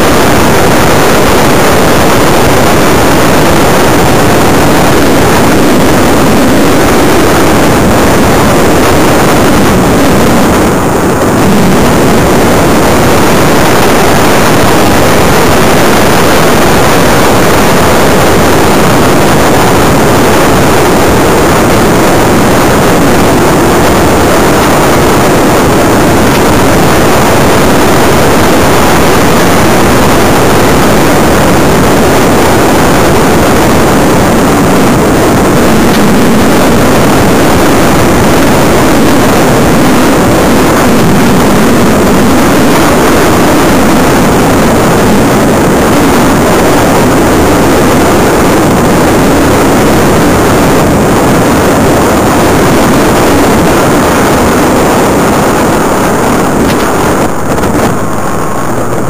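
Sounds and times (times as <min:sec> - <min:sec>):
airflow and propeller rushing: 0:00.0 - 0:59.0.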